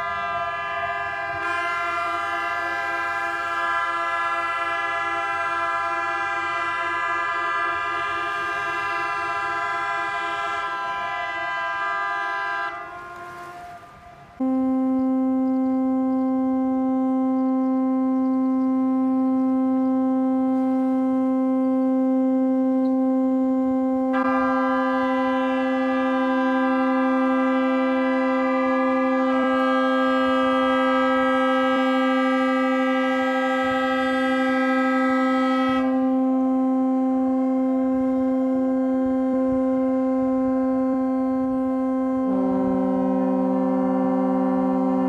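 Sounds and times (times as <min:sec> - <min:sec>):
higher horn blast: 0:00.0 - 0:45.0
low horn blast: 0:00.0 - 0:45.0.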